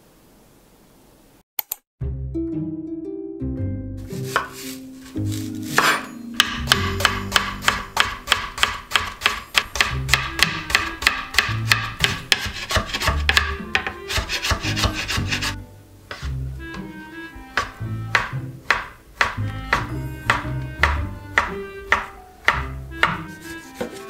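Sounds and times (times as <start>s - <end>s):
soft background music: 2.0s - 24.0s
knife chopping on cutting board: 4.1s - 24.0s.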